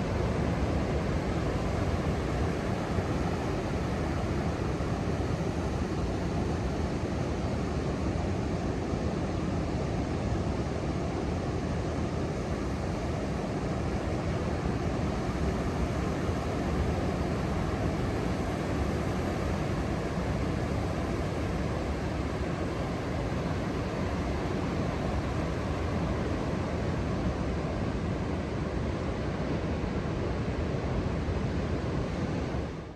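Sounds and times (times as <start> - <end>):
wind: 0.0 - 32.9.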